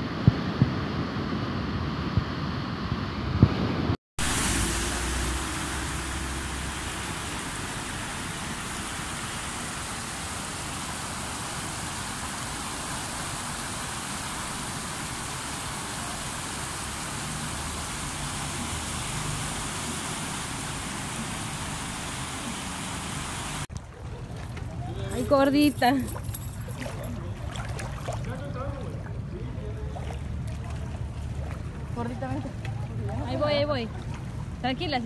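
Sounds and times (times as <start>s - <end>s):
floodwater rushing: 4.2s - 25.4s, 26.0s - 35.0s.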